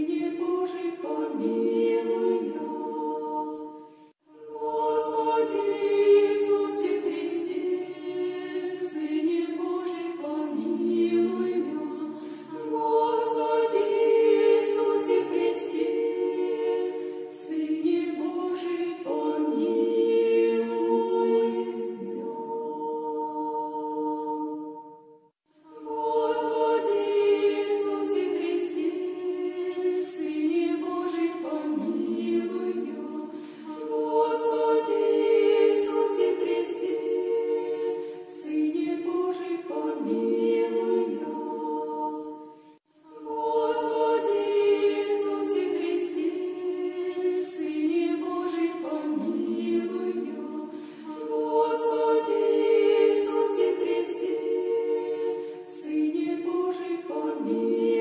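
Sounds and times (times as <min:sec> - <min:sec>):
choir chanting a cappella: 0:00.0 - 0:58.0.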